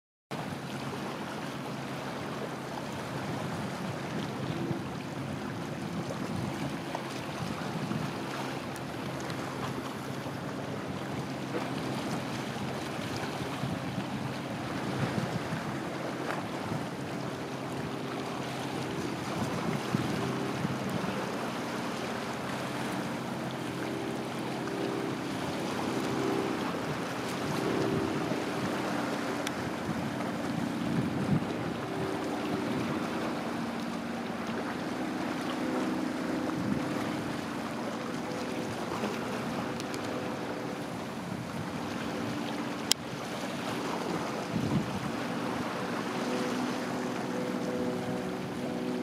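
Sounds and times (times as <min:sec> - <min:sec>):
low engine hum: 0:00.4 - 0:49.0
wind on microphone: 0:03.0 - 0:34.2, 0:35.7 - 0:47.0.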